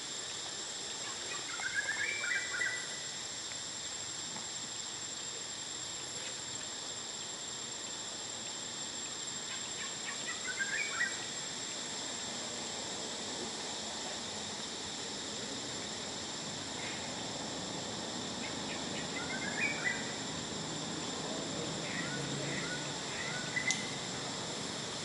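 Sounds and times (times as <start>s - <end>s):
high insect drone: 0.0s - 25.0s
insect chirping calls: 0.0s - 25.0s.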